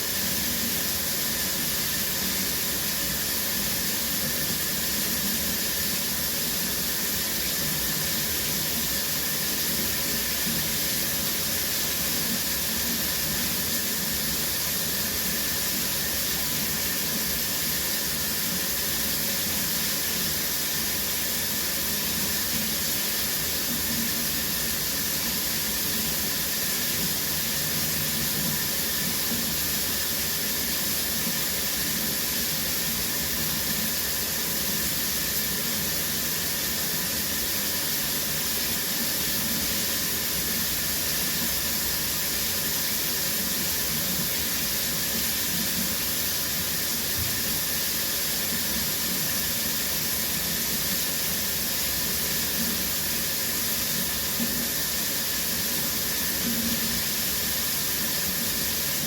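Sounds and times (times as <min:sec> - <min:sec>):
shower running: 0:00.0 - 0:59.0.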